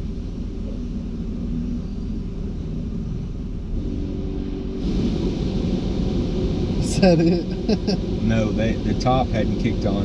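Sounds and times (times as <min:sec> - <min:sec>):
car wash machinery rumbling: 0:00.0 - 0:10.0.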